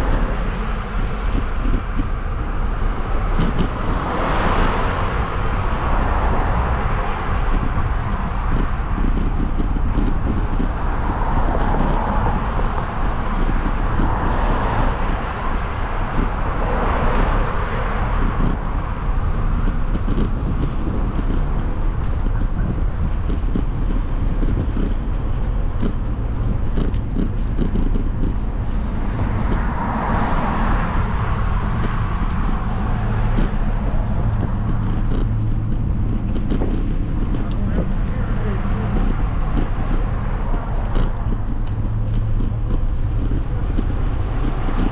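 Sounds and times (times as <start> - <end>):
road and wind noise: 0.0 - 44.9
traffic: 0.0 - 44.9.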